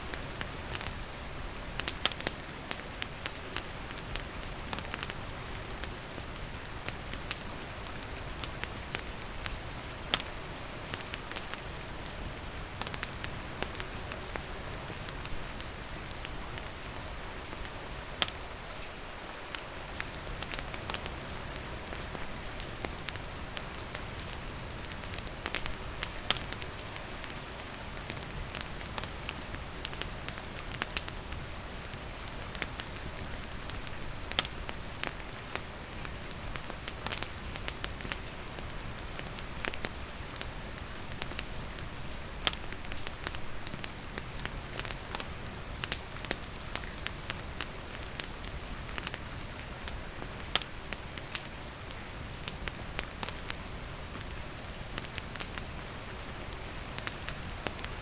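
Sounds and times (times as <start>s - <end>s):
campfire crackling: 0.0s - 58.0s
steady rain falling: 0.0s - 58.0s.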